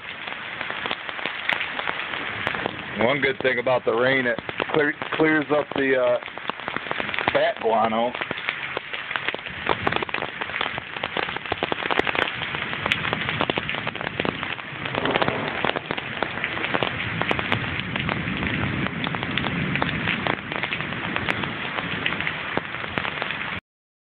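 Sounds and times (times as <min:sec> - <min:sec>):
rain on concrete: 0:00.0 - 0:23.6.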